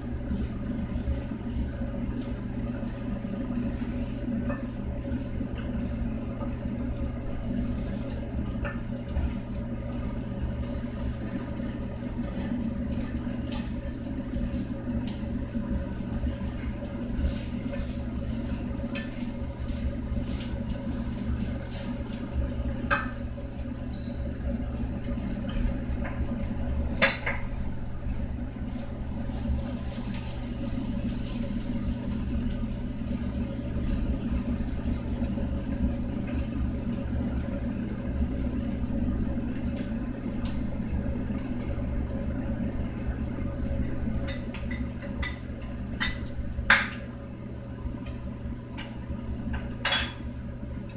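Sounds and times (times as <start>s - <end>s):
pork sizzling in a frying pan: 0.0s - 50.9s
steady low hum: 0.0s - 50.9s.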